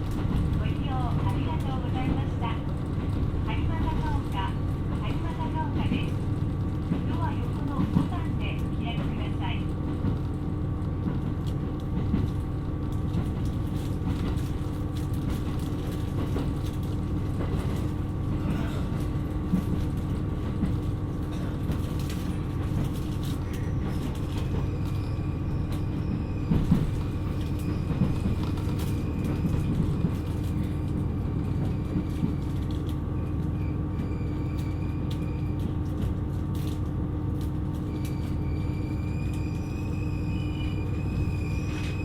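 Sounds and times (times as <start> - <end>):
railcar engine and wheels rumbling: 0.0 - 42.0.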